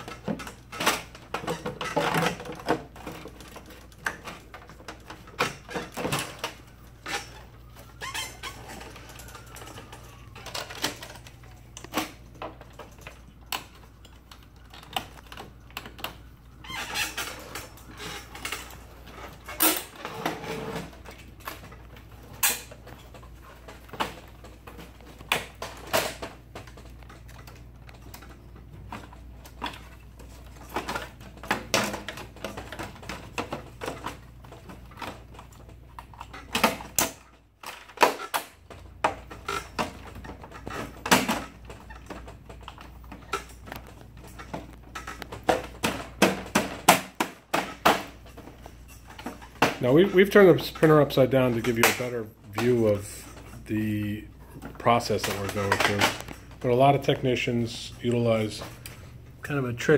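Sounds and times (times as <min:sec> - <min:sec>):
plastic covers clicking into place: 0:00.0 - 0:53.7, 0:54.4 - 0:59.2.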